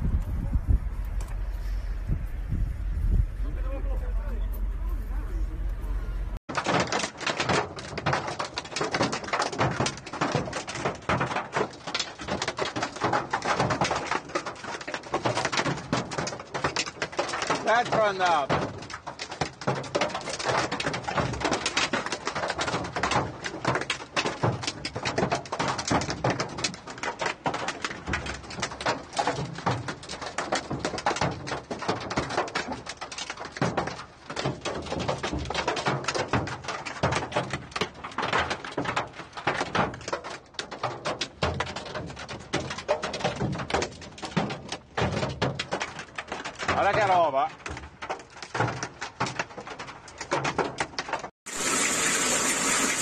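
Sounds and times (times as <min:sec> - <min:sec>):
hailstones pelting the ground: 0:06.5 - 0:53.0.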